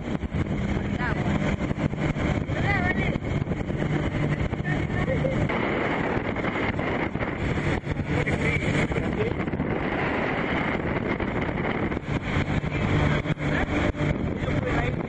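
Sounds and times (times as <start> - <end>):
vehicle engine humming: 0.0 - 15.0
wind buffeting microphone: 0.0 - 15.0.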